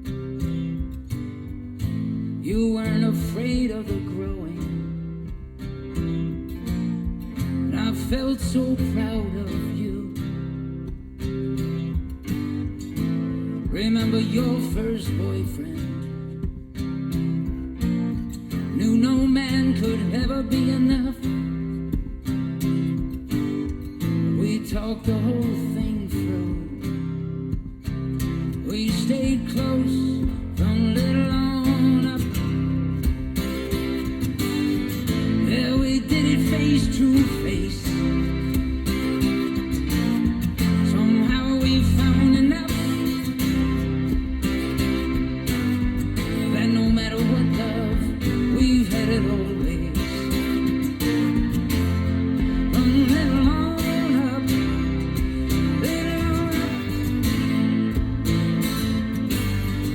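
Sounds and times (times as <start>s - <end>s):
guitar-led song on car speakers: 0.0s - 59.9s.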